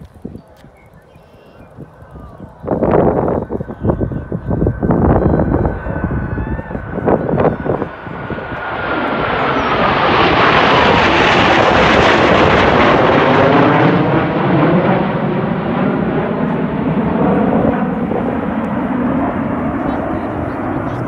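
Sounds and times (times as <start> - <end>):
jets roaring overhead: 1.0 - 21.0
jet whine falling in pitch: 1.1 - 21.0.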